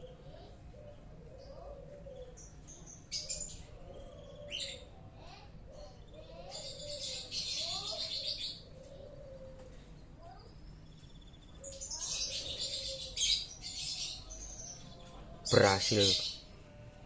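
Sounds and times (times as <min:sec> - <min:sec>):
canaries chirping and trilling: 0:00.0 - 0:17.0.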